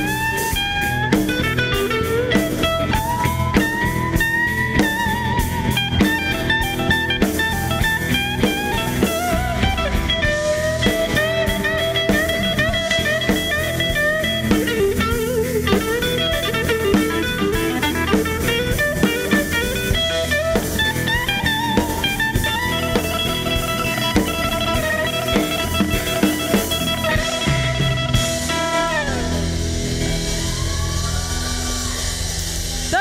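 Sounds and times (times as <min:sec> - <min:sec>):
bass: 0:00.0 - 0:33.0
drum kit: 0:00.0 - 0:33.0
electric guitar lead: 0:00.0 - 0:33.0.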